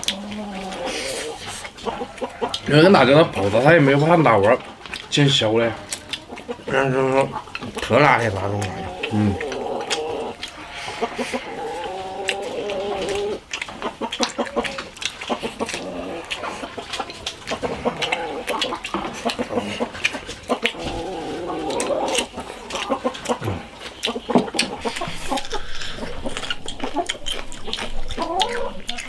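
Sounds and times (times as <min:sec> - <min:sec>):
chewing: 0:00.0 - 0:29.0
hen clucking: 0:00.0 - 0:29.0.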